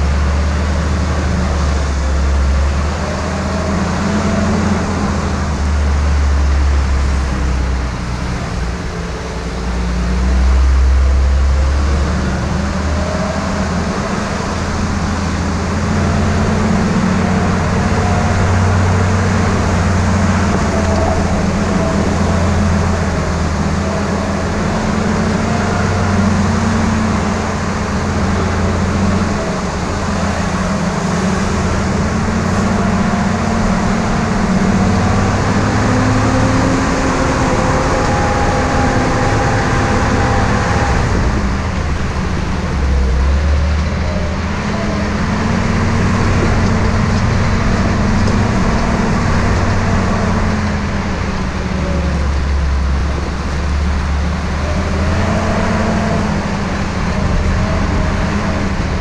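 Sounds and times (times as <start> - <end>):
engine low rumble: 0.0 - 59.0.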